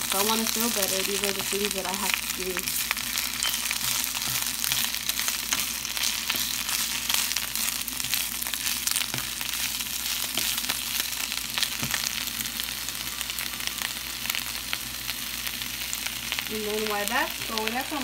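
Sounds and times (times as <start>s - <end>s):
spinach sizzling in oil: 0.0s - 18.0s.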